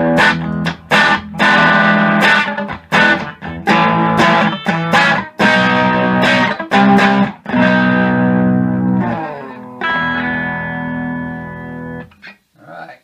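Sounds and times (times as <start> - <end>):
electric guitar chords strummed: 0.0 - 12.1.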